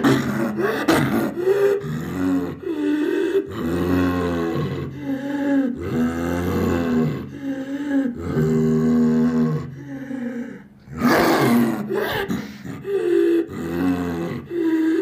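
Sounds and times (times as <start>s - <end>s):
cartoon creature growls: 0.0s - 15.0s
rough cartoon roar: 0.0s - 15.0s.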